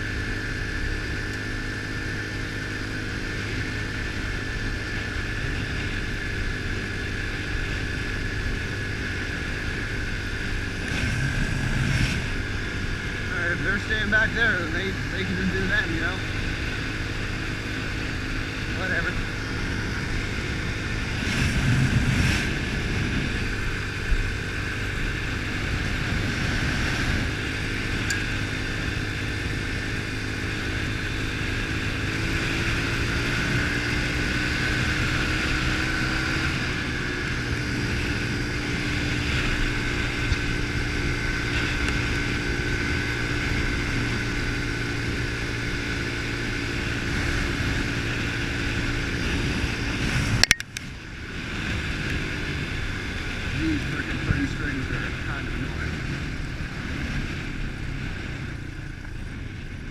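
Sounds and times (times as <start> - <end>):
pit bike engine running: 0.0 - 59.9.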